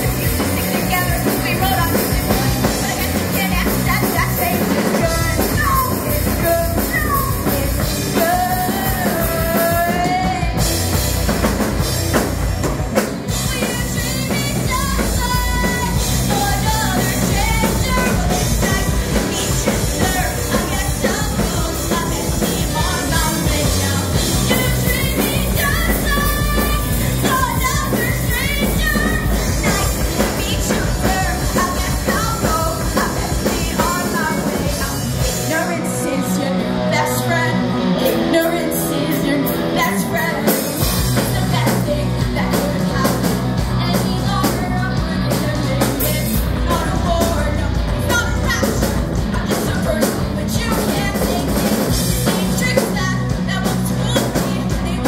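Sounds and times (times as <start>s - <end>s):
woman singing: 0.0s - 12.3s, 13.0s - 55.0s
live rock band playing: 0.0s - 55.0s.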